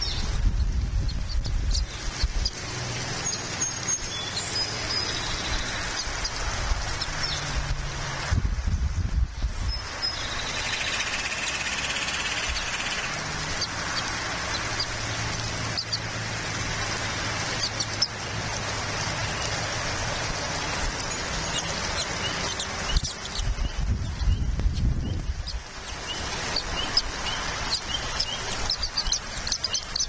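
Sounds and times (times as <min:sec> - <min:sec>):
outdoor hiss: 0:00.0 - 0:30.0.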